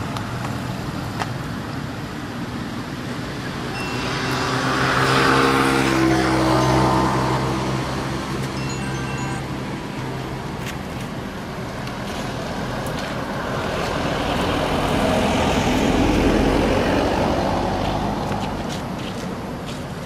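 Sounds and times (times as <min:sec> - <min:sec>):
bus driving past: 0:00.0 - 0:20.0.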